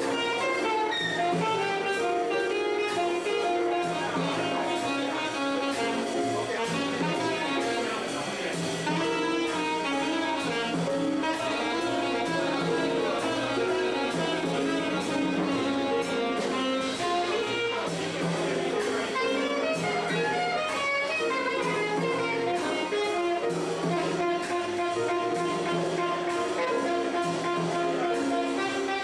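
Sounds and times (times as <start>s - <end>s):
drum kit: 0.0s - 29.0s
keyboard: 0.0s - 29.0s
saxophone melody: 0.0s - 29.0s
upright bass: 0.0s - 29.0s.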